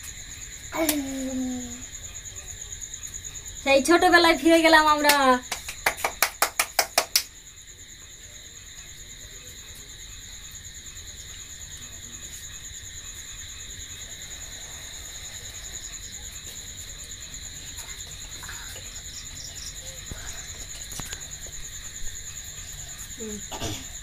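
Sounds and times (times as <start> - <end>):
high insect trill: 0.0 - 24.0
lower insect trill: 0.0 - 24.0.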